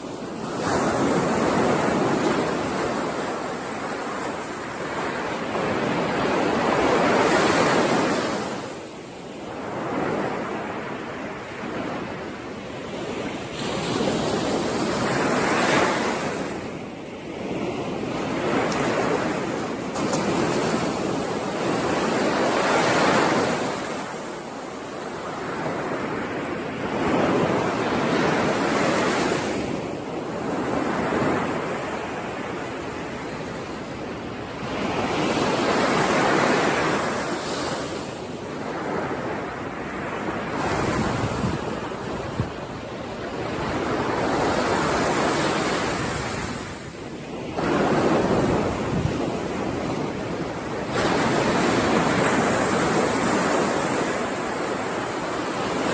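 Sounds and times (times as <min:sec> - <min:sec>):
ocean waves breaking on shore: 0:00.0 - 0:55.9.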